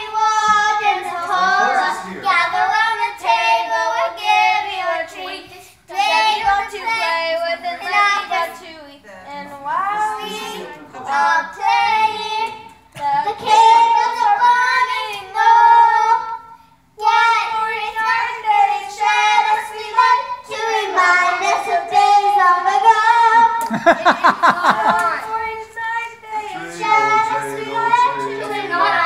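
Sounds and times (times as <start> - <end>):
girl singing into a microphone: 0.0 - 23.6, 24.7 - 29.0.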